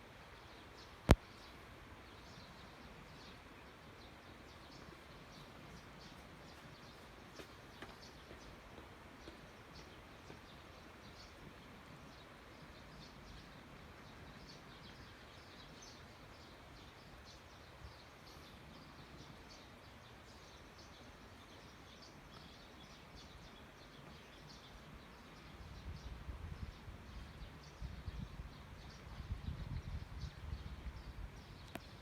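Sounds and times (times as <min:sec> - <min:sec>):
faint birds chirping: 0:00.0 - 0:32.0
low background hiss: 0:00.0 - 0:32.0.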